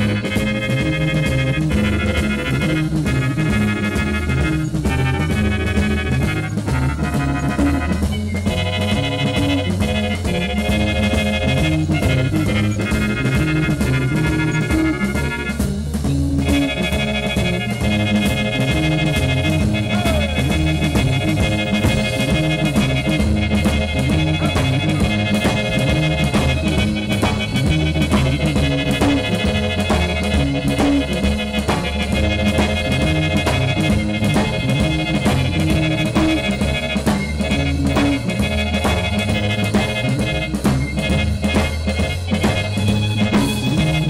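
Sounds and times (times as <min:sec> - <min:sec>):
drum strokes: 0:00.0 - 0:44.0
live band playing blues: 0:00.0 - 0:44.0
stepping bass line: 0:00.0 - 0:44.0.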